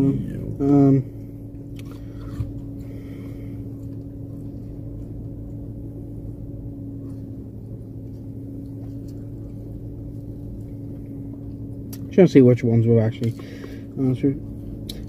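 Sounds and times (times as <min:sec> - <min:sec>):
car cabin hum: 0:00.0 - 0:15.0.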